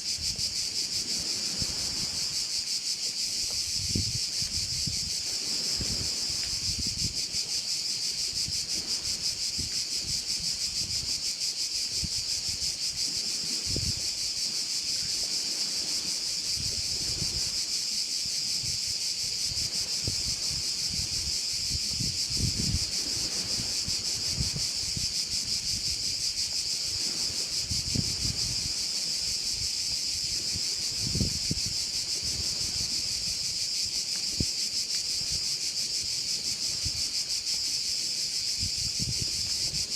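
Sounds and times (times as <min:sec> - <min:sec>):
wind rumble on microphone: 0:00.0 - 0:02.6, 0:03.3 - 0:39.9
crickets chirping: 0:00.0 - 0:39.9.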